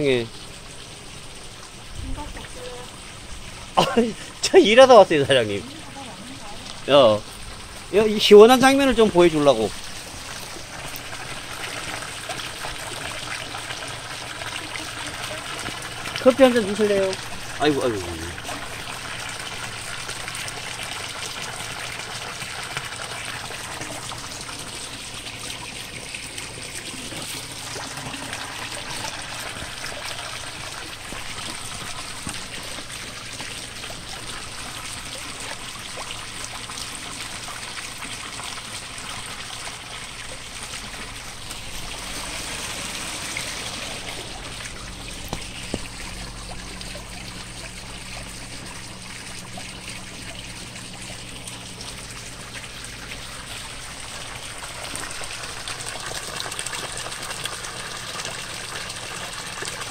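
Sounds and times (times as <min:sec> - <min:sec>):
water flowing and trickling: 0:00.0 - 0:59.9.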